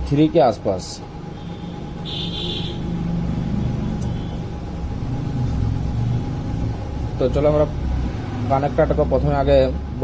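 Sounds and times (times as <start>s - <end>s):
blower fan rumble: 0.0s - 10.0s.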